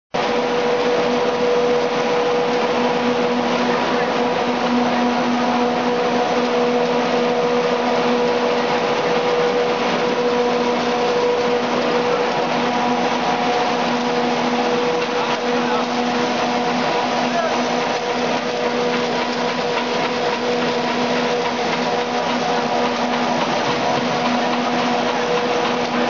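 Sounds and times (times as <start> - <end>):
machine motors droning: 0.2 - 26.0.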